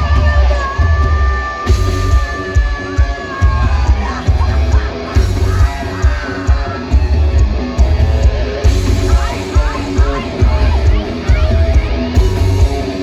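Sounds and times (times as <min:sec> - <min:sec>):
bass guitar: 0:00.0 - 0:13.0
distorted electric guitar riff: 0:00.0 - 0:13.0.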